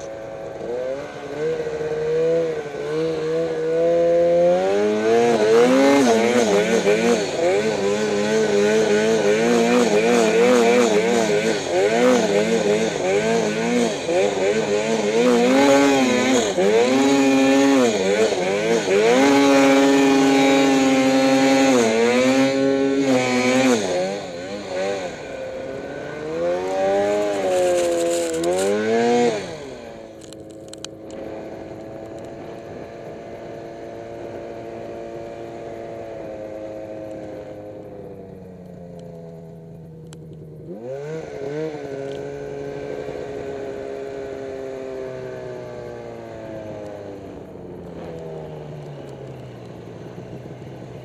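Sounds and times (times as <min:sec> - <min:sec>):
snowmobile engine revving: 0:00.0 - 0:38.4, 0:40.4 - 0:51.0.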